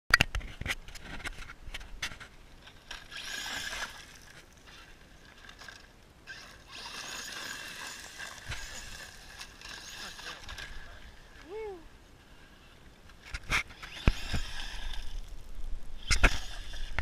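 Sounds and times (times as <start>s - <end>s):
toy car tires crunching gravel: 0.8s - 11.6s, 12.6s - 17.0s.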